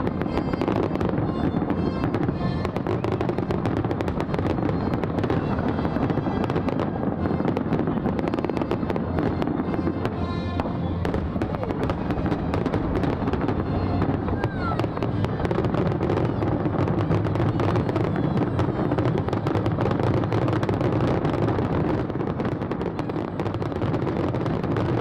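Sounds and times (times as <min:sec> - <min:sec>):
fireworks bursting in rapid succession: 0:00.0 - 0:25.0.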